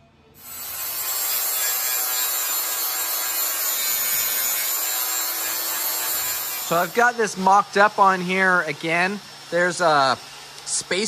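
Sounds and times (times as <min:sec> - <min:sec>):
angle grinder grinding steel: 0:00.4 - 0:10.8.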